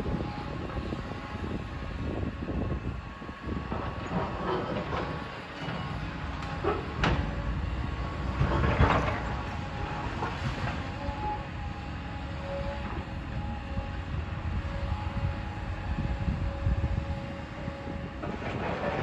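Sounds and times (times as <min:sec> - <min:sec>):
demolition machinery engine drone: 0:00.0 - 0:19.0.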